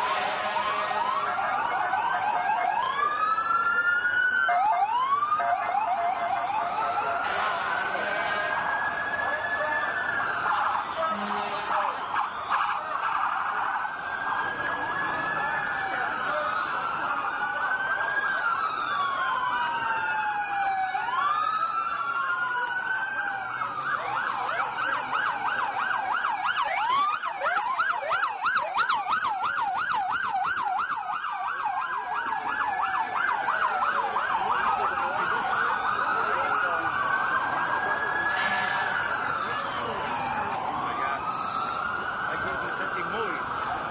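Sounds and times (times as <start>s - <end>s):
fast siren yelp: 0.0s - 43.9s
sirens wailing: 0.0s - 43.9s.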